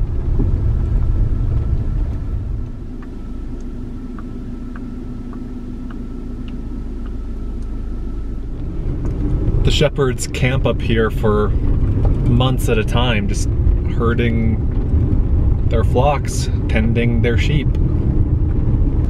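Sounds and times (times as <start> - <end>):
car engine hum: 0.0 - 19.0
car rolling on dirt road: 0.0 - 19.0.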